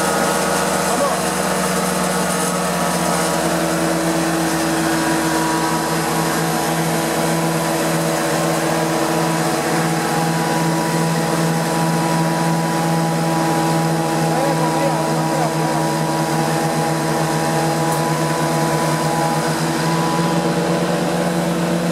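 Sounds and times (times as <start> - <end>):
carpet cleaner engine droning: 0.0 - 21.9.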